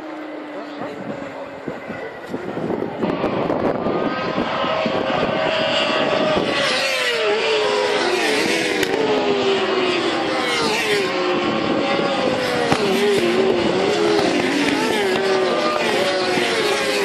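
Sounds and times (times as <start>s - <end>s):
racing motorcycles at high revs: 0.0s - 17.0s.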